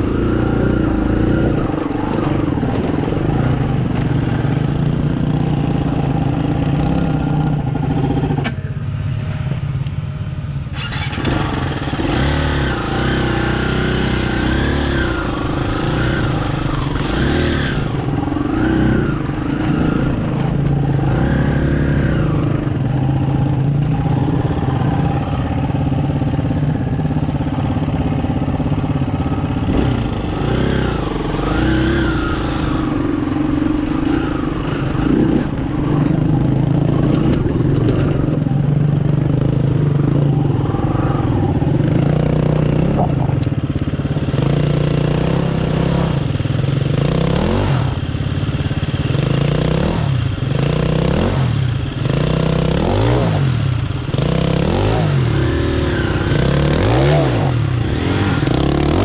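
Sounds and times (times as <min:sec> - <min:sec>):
dirt bike engine revving: 0:00.0 - 0:08.5, 0:10.7 - 0:59.0.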